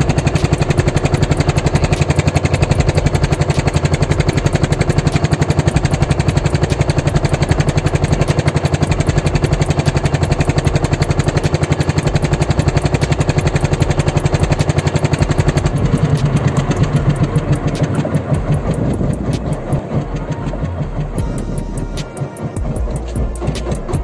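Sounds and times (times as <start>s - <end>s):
boat engine thumping: 0.0s - 24.0s.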